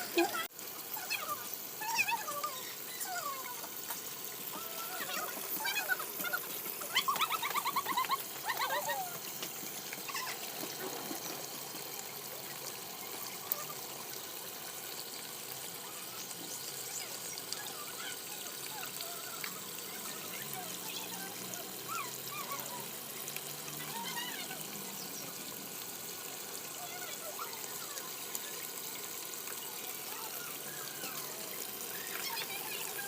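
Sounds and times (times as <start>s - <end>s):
fountain water trickling: 0.0s - 33.0s.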